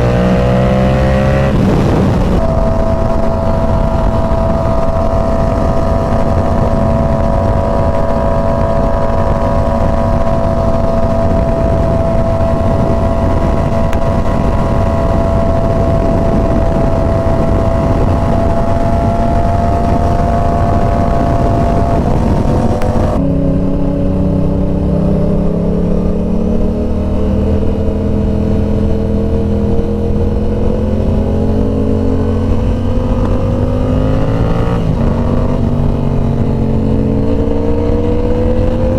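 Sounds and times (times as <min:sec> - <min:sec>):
motorcycle engine at speed: 0:00.0 - 0:38.9
wind rush: 0:00.0 - 0:38.9.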